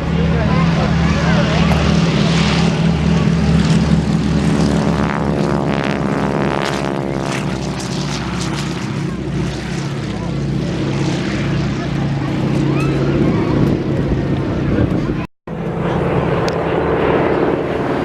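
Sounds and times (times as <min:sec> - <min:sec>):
propeller plane flying past: 0:00.0 - 0:18.0.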